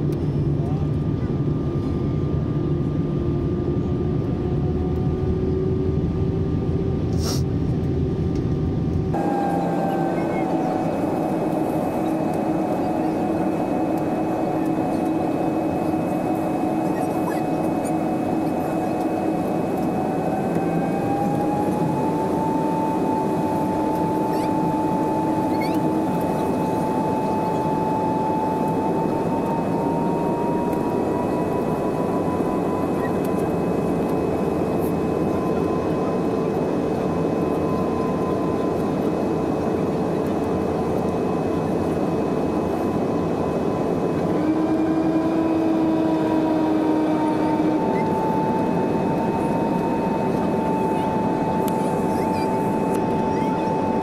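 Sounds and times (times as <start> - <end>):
airflow and jet engine roar: 0.0 - 54.0
engine hum rising in pitch: 0.0 - 54.0.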